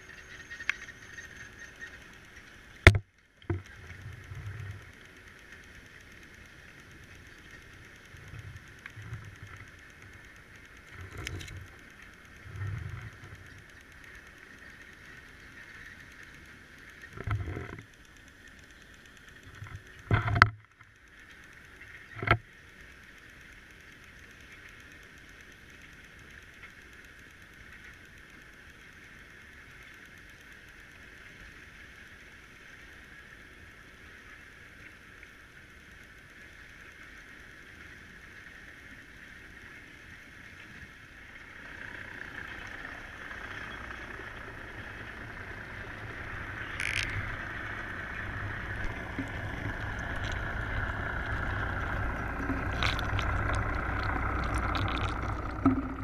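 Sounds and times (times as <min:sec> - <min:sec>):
low rumble of moving water: 0:00.0 - 0:56.0.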